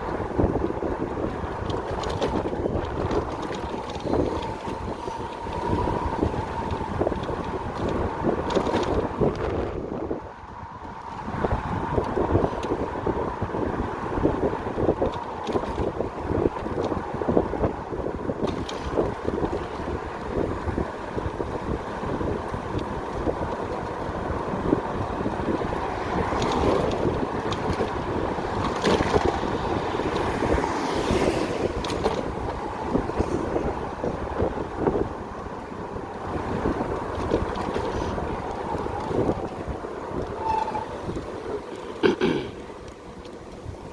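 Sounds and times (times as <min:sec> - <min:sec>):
road noise: 0:00.0 - 0:43.9
wind buffeting microphone: 0:00.0 - 0:43.9.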